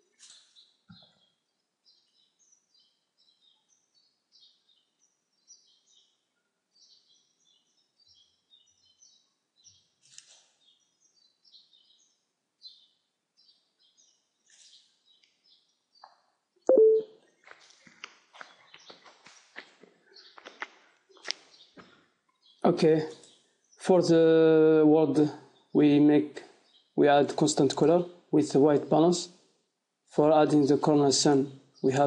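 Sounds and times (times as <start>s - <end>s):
small birds chirping: 0.0s - 24.5s, 25.2s - 29.2s.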